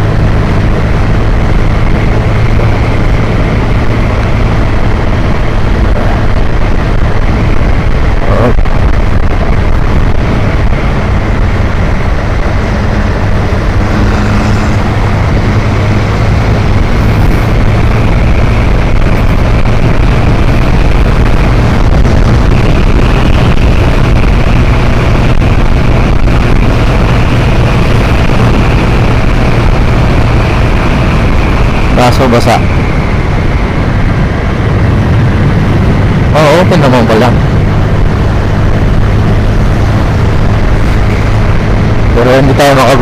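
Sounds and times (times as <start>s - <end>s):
motorcycle engine drone: 0.0s - 43.0s
wind rush on microphone: 0.0s - 43.0s.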